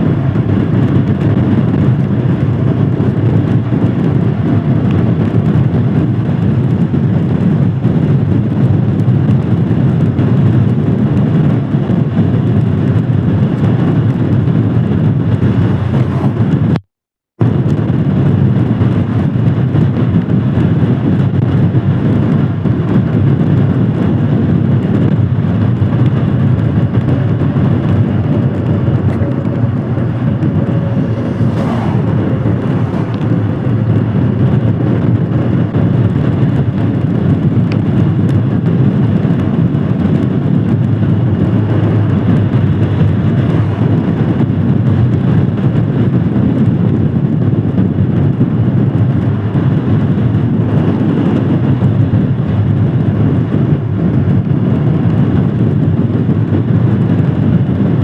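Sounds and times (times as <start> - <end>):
riding noise in rain: 0.0 - 16.8, 17.4 - 58.0
motorcycle engine running: 0.0 - 58.0.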